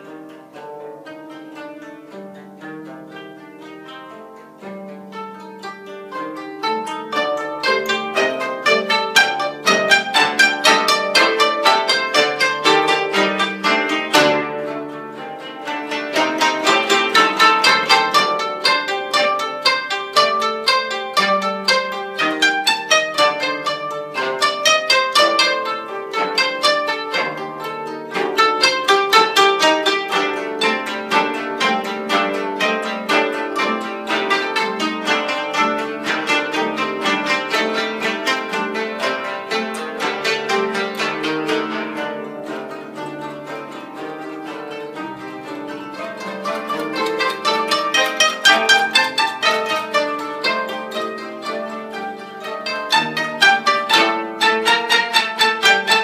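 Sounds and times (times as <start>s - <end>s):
koto ensemble playing: 0.0s - 56.0s.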